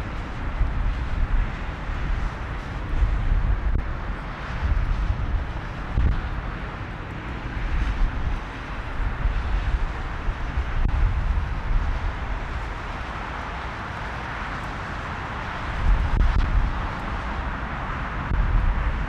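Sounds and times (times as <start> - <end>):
jet engines roaring: 0.0 - 19.0
wind rumble on microphone: 0.0 - 19.0.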